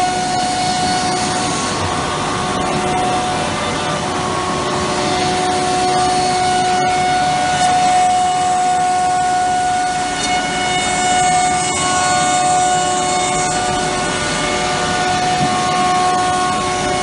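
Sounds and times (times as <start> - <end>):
cnc router running with high whine: 0.0 - 17.0.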